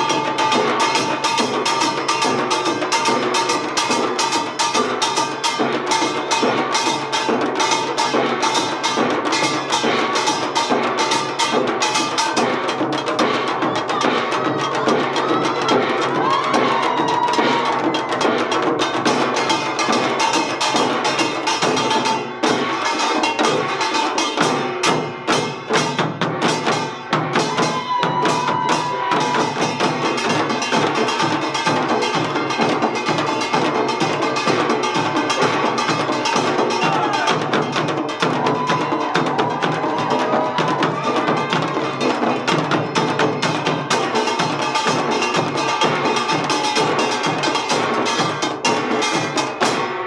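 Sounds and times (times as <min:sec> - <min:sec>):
percussion ensemble of gongs and drums: 0:00.0 - 0:50.0.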